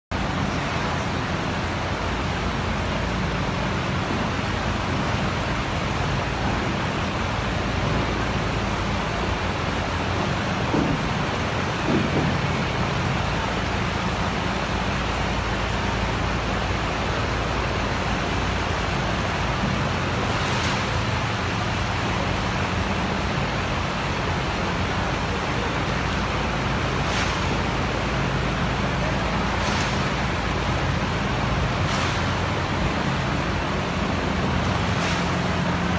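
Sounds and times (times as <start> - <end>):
road vehicle rumble: 0.1 - 35.9
vehicle bumps: 3.0 - 15.3, 16.9 - 35.9.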